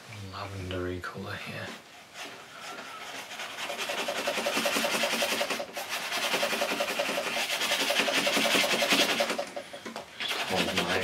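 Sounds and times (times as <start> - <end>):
paintbrush scrubbing on canvas: 1.7 - 11.0.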